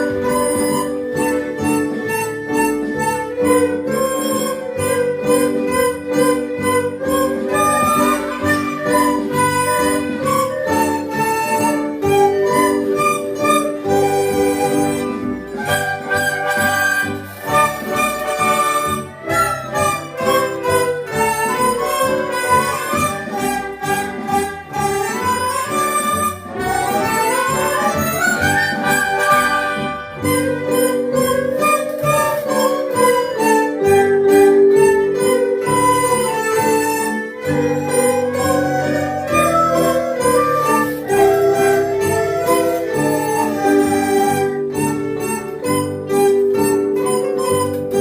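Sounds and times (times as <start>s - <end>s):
folk ensemble of strings and flute: 0.0s - 48.0s.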